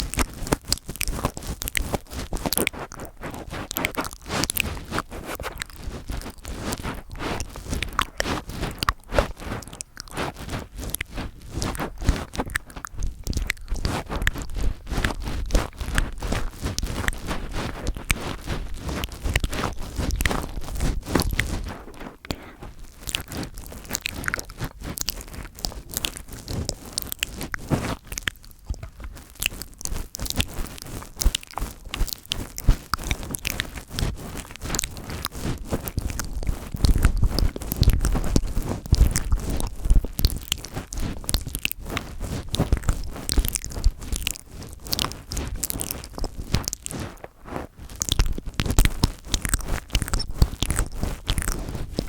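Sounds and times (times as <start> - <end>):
fingers rubbing on a microphone: 0.0 - 52.0.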